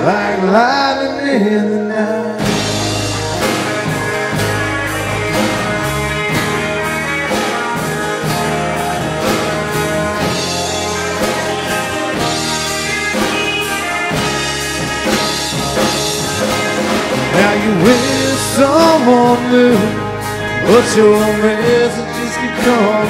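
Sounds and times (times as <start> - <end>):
full band instrumental: 0.0 - 23.0
drum kit steady beat: 2.4 - 23.0.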